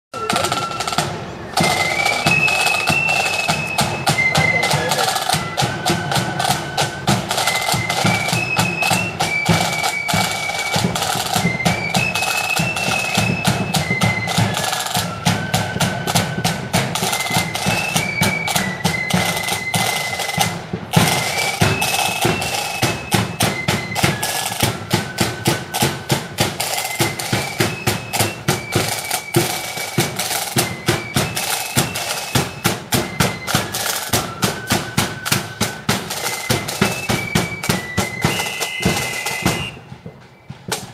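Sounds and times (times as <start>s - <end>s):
flute melody: 0.1s - 40.9s
side drums: 0.1s - 40.9s.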